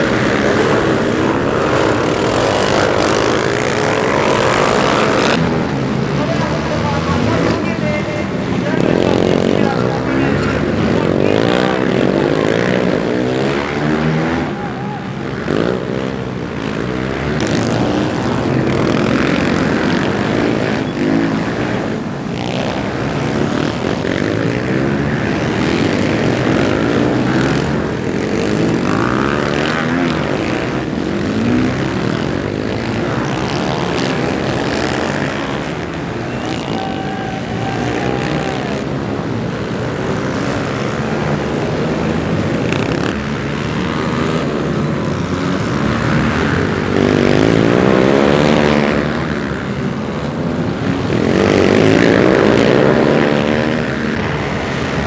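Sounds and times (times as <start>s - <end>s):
dirt bike engines racing: 0.0s - 55.0s.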